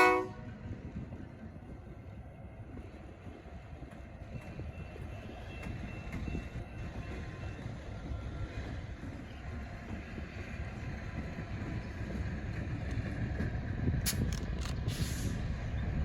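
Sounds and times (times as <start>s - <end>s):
diesel locomotive rumble: 0.0s - 16.0s.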